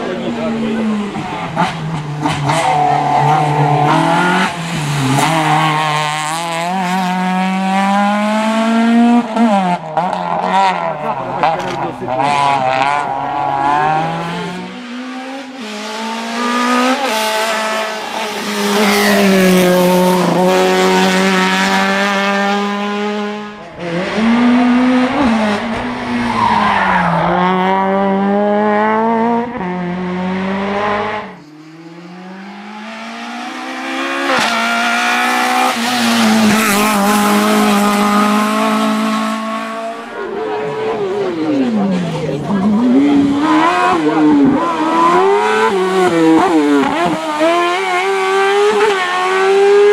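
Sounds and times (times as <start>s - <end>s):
race car engines revving: 0.0s - 49.9s.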